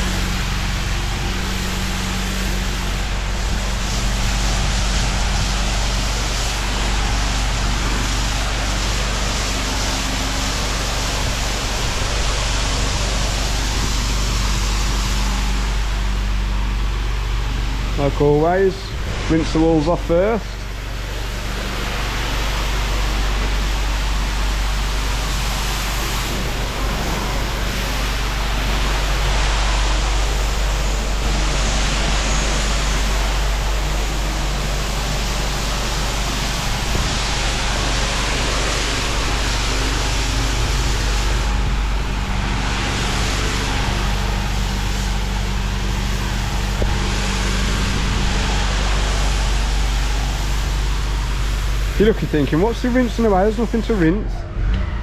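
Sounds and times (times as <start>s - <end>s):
pressure washer water spray: 0.0s - 54.2s
machine low hum: 0.0s - 55.0s.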